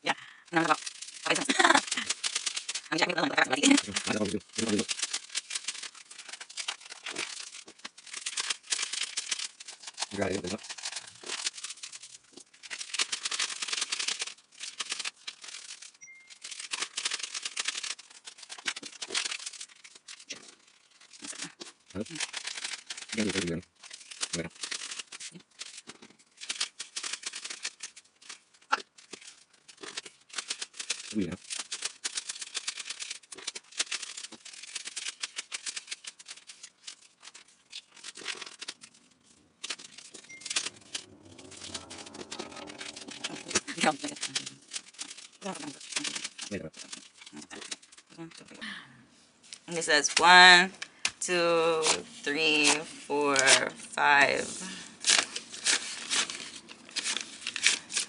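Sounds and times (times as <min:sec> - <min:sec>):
paper bills counted by hand: 0:00.5 - 0:48.5, 0:49.6 - 0:58.0
banknotes rustling: 0:00.6 - 0:48.4, 0:49.5 - 0:58.0.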